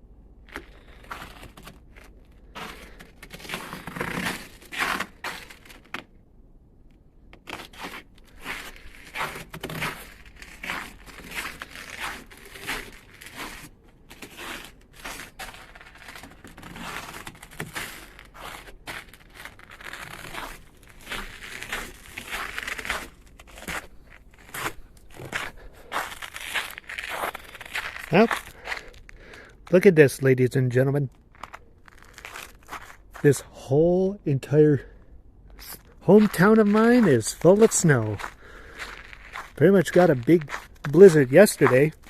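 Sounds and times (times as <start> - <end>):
footsteps crunching in snow: 0.5 - 5.9, 7.5 - 29.8, 31.3 - 33.5, 35.6 - 42.0.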